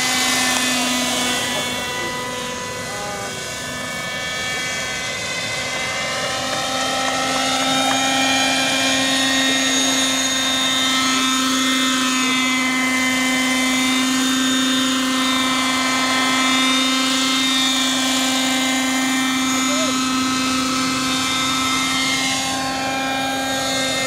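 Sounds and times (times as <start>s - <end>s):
model helicopter buzzing whine: 0.0s - 24.0s.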